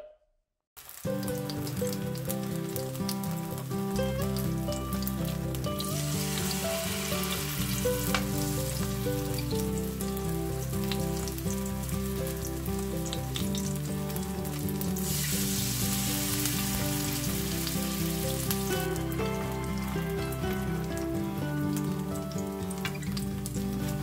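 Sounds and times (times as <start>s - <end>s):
batter sizzling in hot oil: 0.8s - 24.0s
background music: 1.0s - 24.0s.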